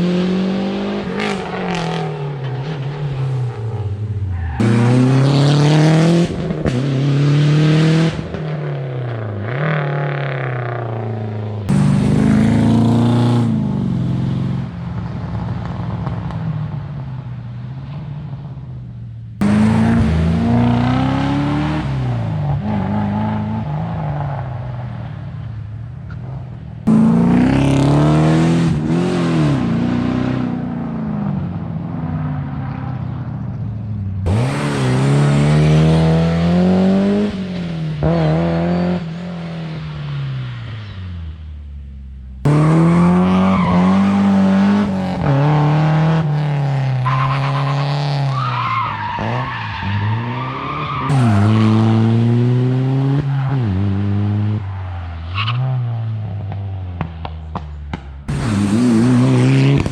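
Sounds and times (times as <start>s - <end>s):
rally car engines revving past: 0.0s - 16.8s, 19.4s - 25.2s, 26.1s - 41.4s, 42.4s - 59.9s.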